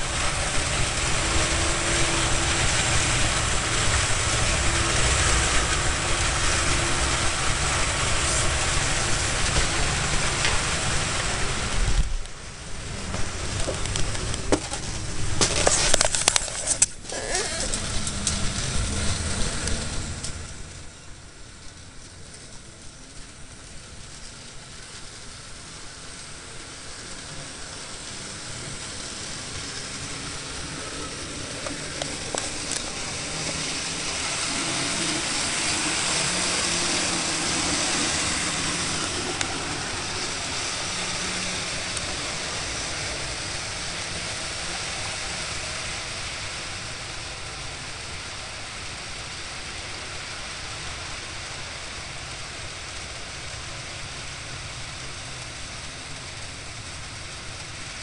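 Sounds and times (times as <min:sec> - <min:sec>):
model train rumbling on track: 0:00.0 - 0:58.0.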